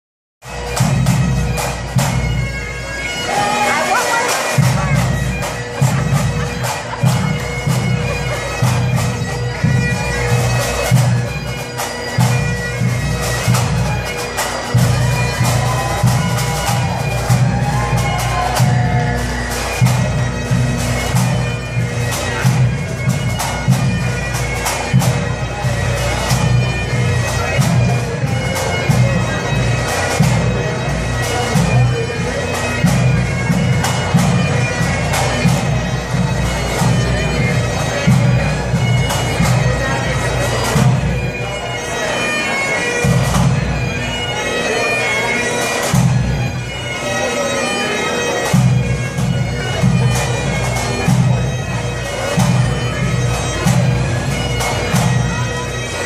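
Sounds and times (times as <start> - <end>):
bagpipe band playing: 0.4 - 56.0.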